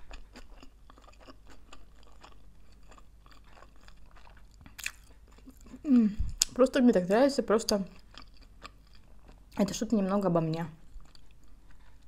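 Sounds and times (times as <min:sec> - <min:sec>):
chewing sushi: 0:00.0 - 0:06.5, 0:07.7 - 0:09.7, 0:10.7 - 0:12.0.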